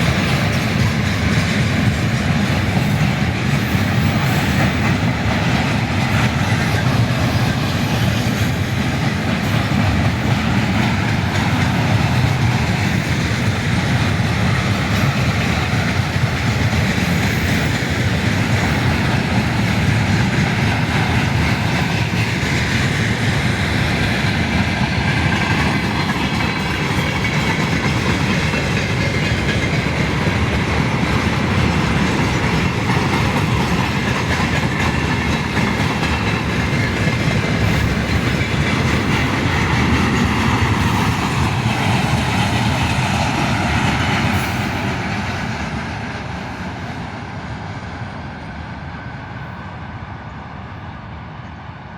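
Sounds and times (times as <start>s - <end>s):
freight train wheels on rails: 0.0s - 51.9s.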